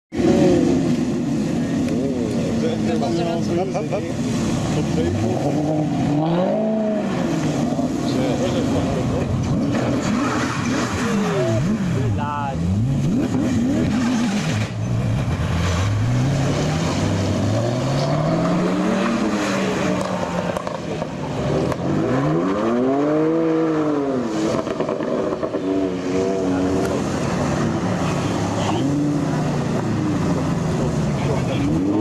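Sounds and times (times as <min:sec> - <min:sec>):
supercar engines revving: 0:00.1 - 0:32.0.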